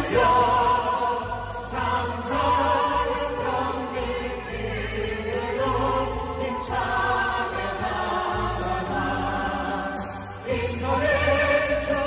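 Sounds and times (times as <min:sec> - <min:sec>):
deep bass notes: 0:00.0 - 0:12.0
group singing through microphones: 0:00.0 - 0:12.0.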